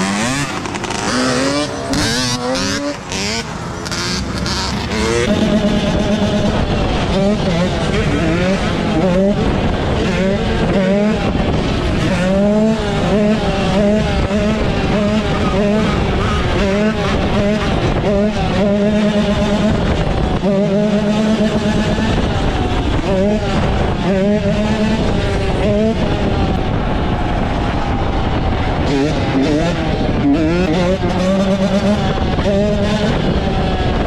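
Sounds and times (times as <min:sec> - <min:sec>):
motorcycle engines running hard: 0:00.0 - 0:34.0.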